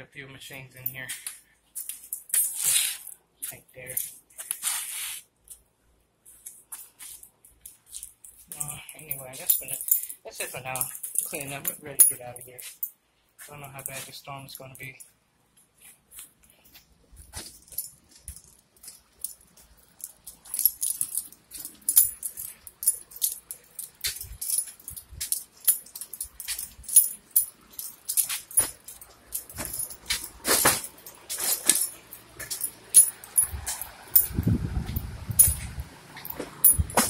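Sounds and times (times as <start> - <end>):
metal clinking and jingling: 0.8 - 4.3, 6.4 - 14.0, 15.8 - 37.0.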